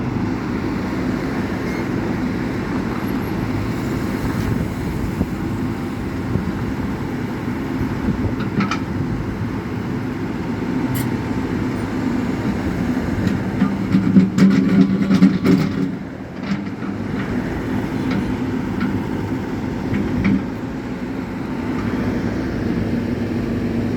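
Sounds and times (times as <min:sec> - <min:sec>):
engine and road rumble: 0:00.0 - 0:23.9.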